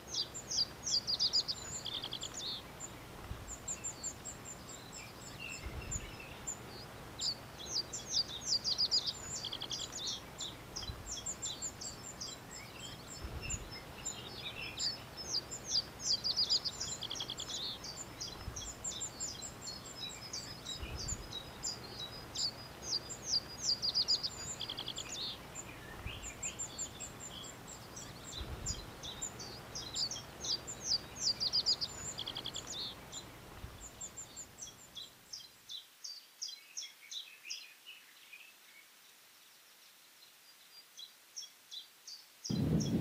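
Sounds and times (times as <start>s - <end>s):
faint low background noise: 0.0s - 43.0s
small birds chirping and trilling: 0.0s - 43.0s.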